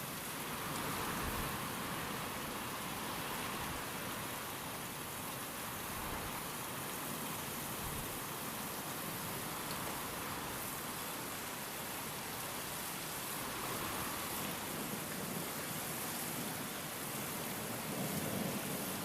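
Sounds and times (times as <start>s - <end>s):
steady rain: 0.0s - 19.0s
wind: 0.0s - 19.0s.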